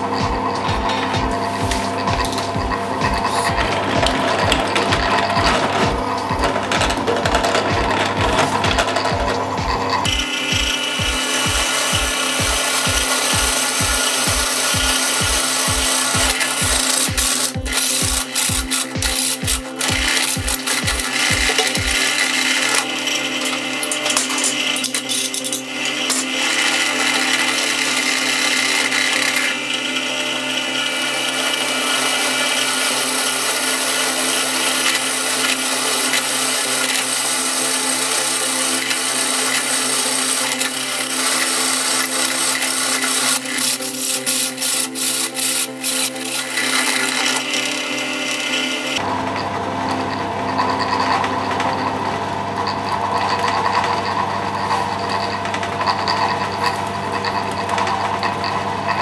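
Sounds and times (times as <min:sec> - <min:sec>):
rapid clicks: 0:00.0 - 0:49.1
drill bit cutting metal: 0:00.0 - 0:59.0
drill press motor hum: 0:00.0 - 0:59.0.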